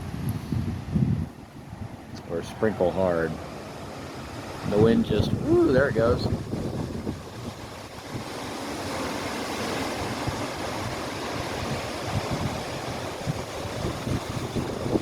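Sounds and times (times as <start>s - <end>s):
storm wind gusting: 0.0s - 15.0s
wind buffeting microphone: 0.0s - 15.0s.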